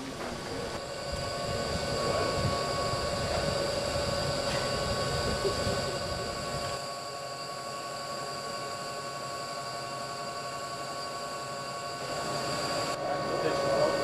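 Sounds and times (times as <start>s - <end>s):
mechanical hum with whining tones: 0.0s - 14.0s.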